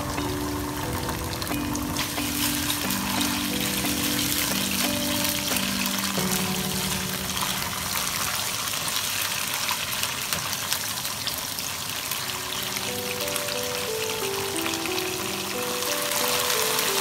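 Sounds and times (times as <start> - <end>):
soft background music: 0.0 - 9.0, 12.1 - 17.0
food sizzling in hot oil: 0.0 - 17.0.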